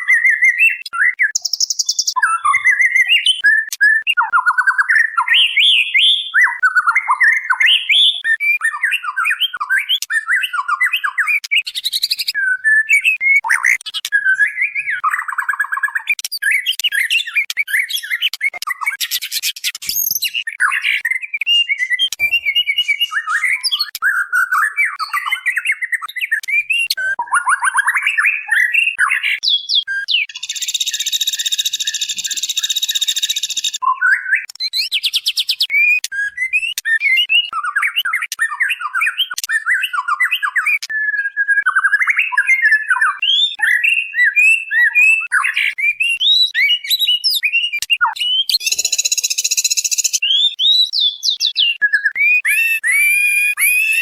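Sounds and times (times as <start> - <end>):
bird chirping and chattering: 0.0 - 54.0.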